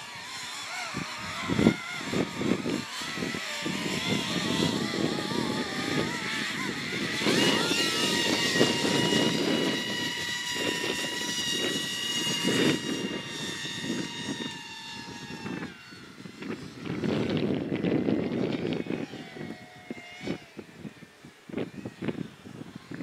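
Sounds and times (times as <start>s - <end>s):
electric jet fan whine: 0.0s - 23.0s
wind on microphone: 0.0s - 23.0s.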